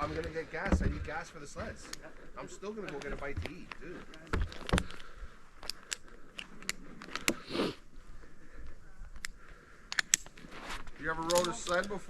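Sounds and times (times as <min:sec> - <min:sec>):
breathy rustle: 0:00.0 - 0:11.2.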